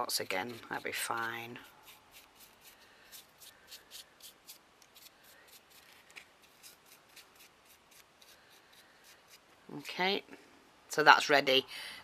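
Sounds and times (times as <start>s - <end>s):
paintbrush strokes on card: 0.0s - 10.0s.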